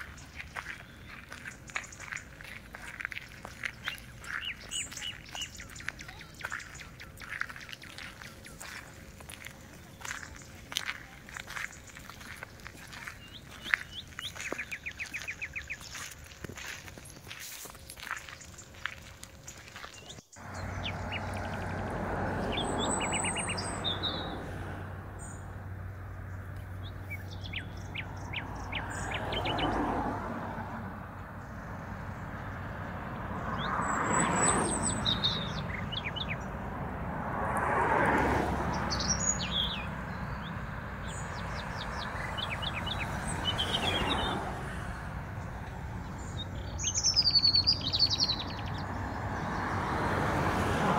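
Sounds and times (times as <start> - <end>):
small birds chirping: 0.0 - 30.0, 31.1 - 36.6, 38.6 - 49.7
vehicles passing: 0.0 - 50.9.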